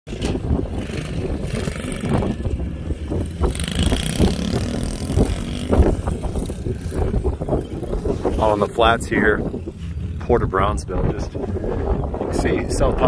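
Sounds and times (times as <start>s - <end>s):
distant dirt bikes: 0.1s - 13.0s
wind buffeting microphone: 0.1s - 13.0s.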